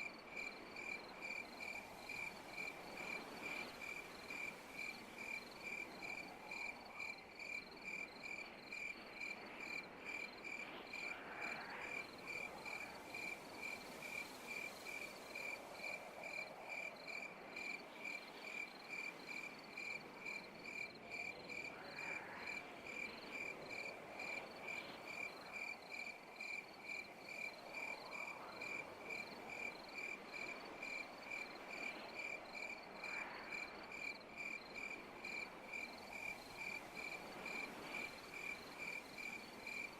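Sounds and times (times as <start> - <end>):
background insect chorus: 0.0 - 39.9.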